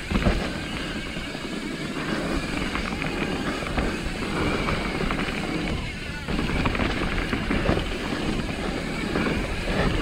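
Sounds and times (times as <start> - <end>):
bike rattling over bumps: 0.0 - 10.0
tyre and wind rush: 0.0 - 10.0.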